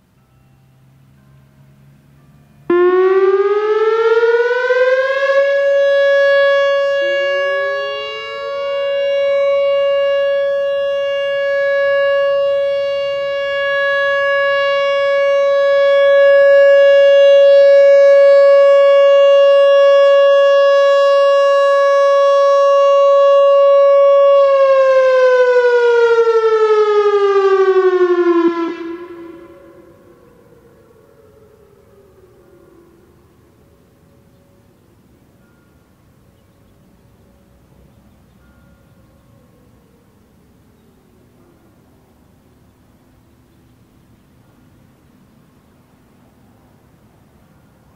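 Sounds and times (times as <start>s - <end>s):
outdoor warning siren: 0.0s - 47.9s.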